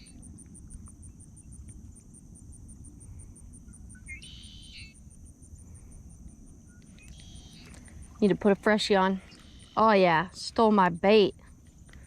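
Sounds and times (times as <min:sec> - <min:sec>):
insects chirping: 0:00.0 - 0:12.0
low outdoor rumble: 0:00.0 - 0:12.0.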